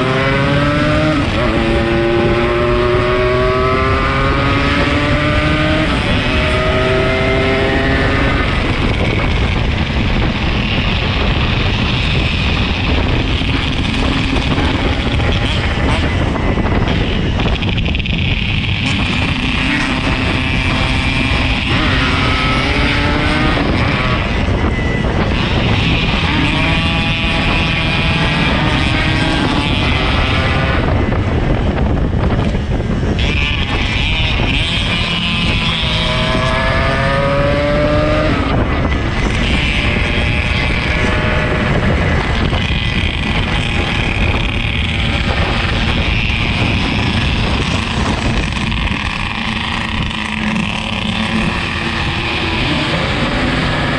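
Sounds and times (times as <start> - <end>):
motorcycle engine accelerating: 0.0 - 53.9
road and wind noise: 0.0 - 53.9.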